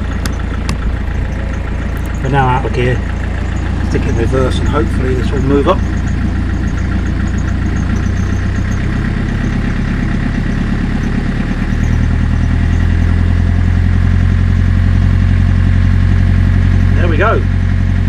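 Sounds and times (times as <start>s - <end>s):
boat diesel engine revving: 0.0s - 18.0s.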